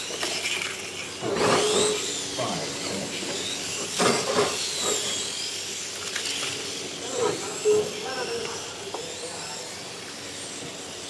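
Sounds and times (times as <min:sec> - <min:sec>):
rc motorcycle motors whining: 0:00.0 - 0:11.0.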